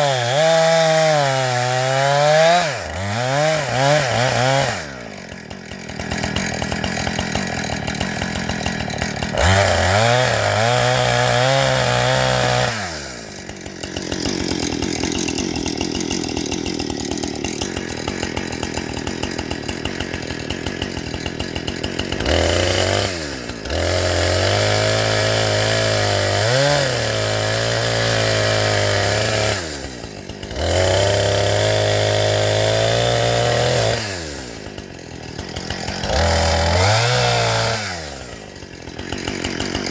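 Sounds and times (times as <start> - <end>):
small engine revving: 0.0 - 13.4, 19.2 - 39.9.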